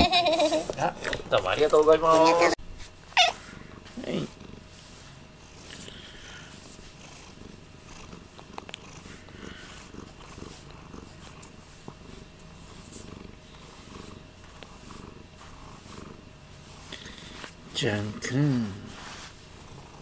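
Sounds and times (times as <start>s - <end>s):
cat purring: 3.5s - 20.0s.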